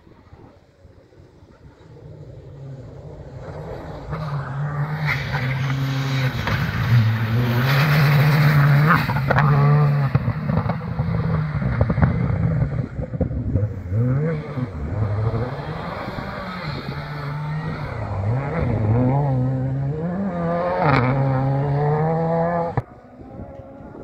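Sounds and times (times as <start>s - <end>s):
rally car engine changing gears: 1.8s - 24.0s.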